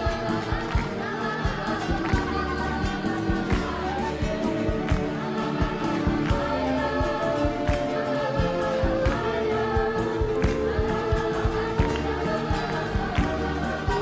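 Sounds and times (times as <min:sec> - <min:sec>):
choir singing: 0:00.0 - 0:14.0
steady drum beat: 0:00.0 - 0:14.0.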